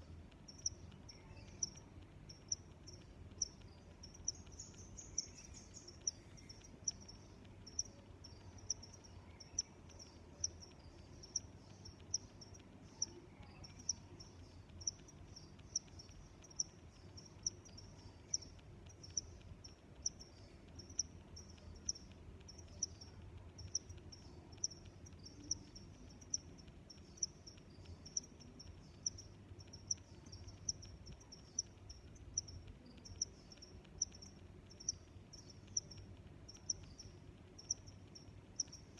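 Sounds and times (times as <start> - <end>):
crickets chirping: 0.0 - 38.9
faint low background hum: 0.0 - 38.9.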